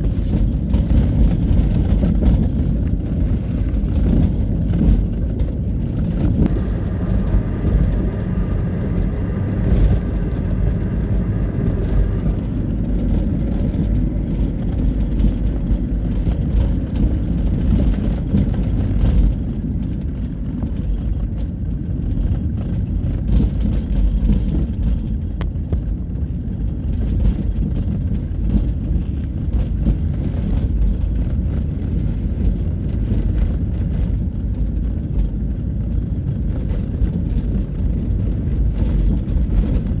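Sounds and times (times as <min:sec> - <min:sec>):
trucks road rumble: 0:00.0 - 0:40.0.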